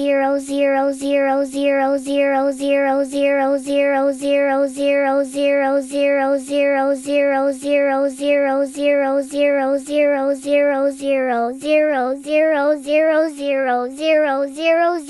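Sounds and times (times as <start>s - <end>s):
looped high singing voice: 0.0s - 15.0s.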